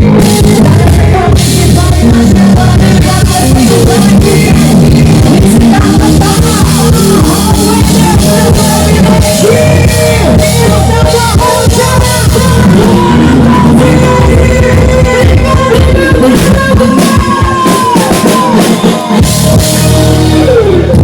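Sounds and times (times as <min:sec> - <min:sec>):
band playing loud music: 0:00.0 - 0:21.0.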